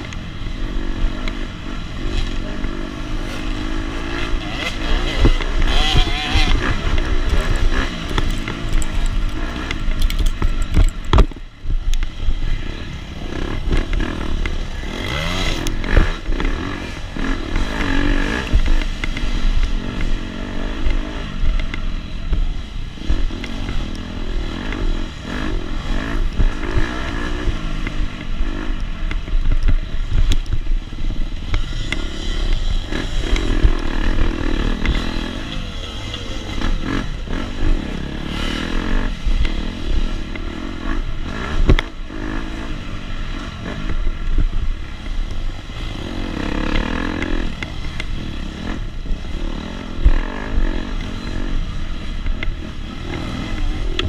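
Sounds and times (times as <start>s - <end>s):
bike rattling and clatter: 0.0s - 54.0s
dirt bike engine revving: 0.0s - 54.0s.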